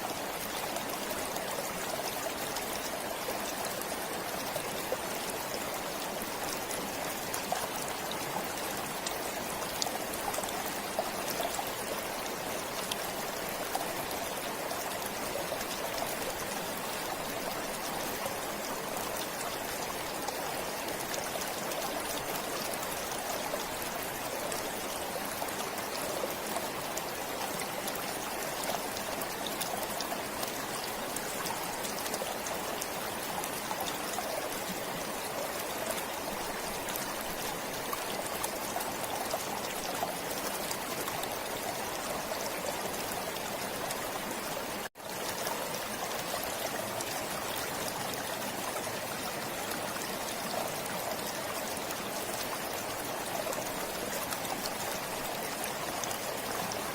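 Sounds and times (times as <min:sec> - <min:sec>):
stream water trickling: 0:00.0 - 0:56.9.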